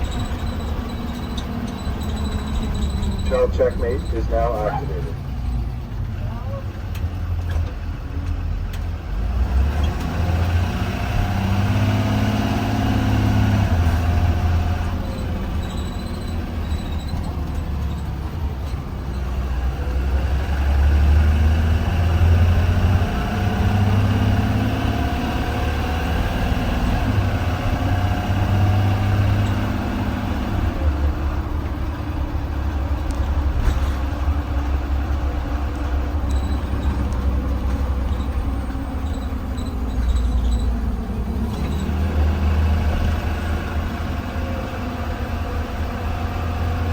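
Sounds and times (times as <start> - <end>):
bus engine accelerating: 0.0 - 46.9.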